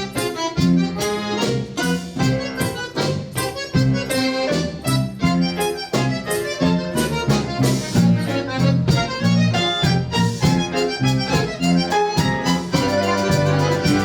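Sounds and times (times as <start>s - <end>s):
accordion playing lively tune: 0.0s - 14.0s.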